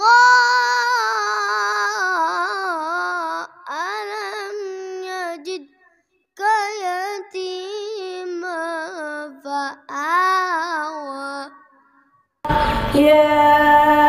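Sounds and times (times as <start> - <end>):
boy chanting into microphone: 0.0 - 11.8, 12.5 - 14.0.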